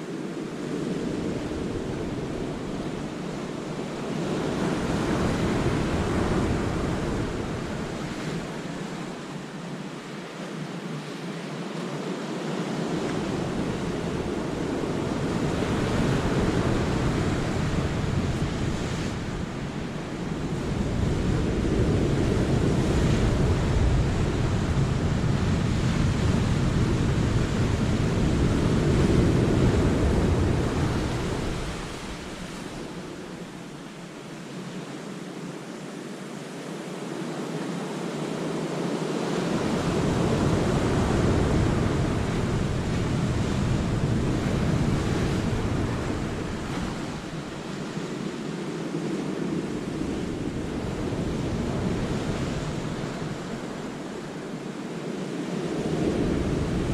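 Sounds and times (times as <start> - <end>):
wind rumble on microphone: 0.0 - 56.9.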